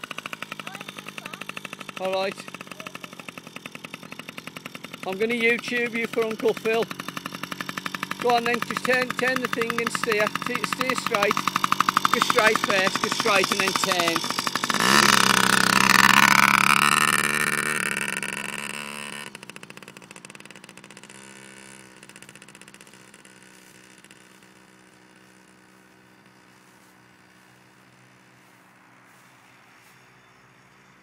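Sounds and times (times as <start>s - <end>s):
motorbike engine revving: 0.0s - 28.7s.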